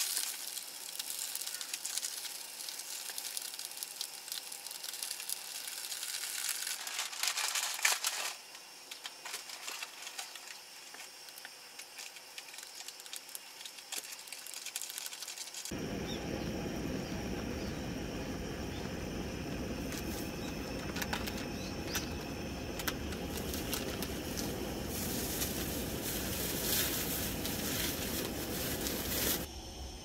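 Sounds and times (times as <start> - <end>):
broth boiling with pops: 0.0 - 7.9, 8.6 - 29.5
bright hiss: 0.0 - 29.6.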